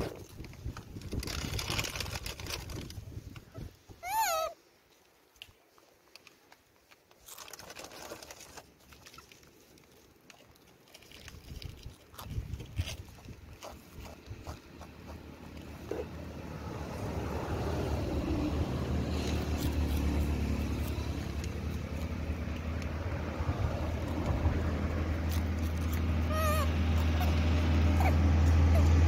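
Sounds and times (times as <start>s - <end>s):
vehicle engine rumbling: 0.0s - 4.5s, 7.3s - 29.0s.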